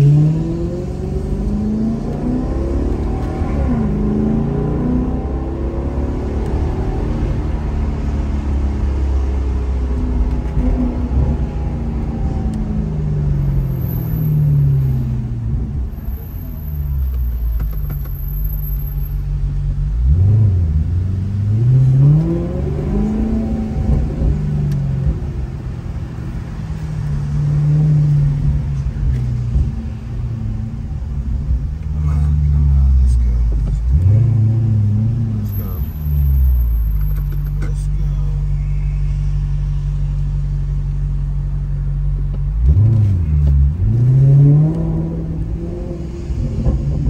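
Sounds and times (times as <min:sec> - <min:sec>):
car engine from inside cabin: 0:00.0 - 0:47.0.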